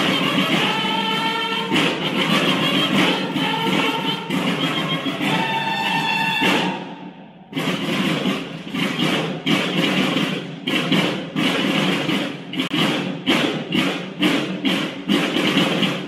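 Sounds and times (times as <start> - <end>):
marching drums playing: 0.0 - 16.0.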